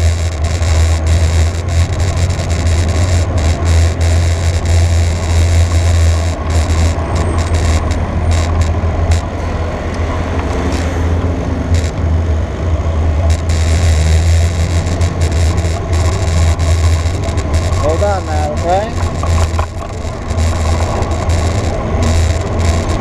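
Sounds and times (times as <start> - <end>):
rushing noise: 0.0 - 23.0
vehicle engine running steadily: 0.0 - 23.0.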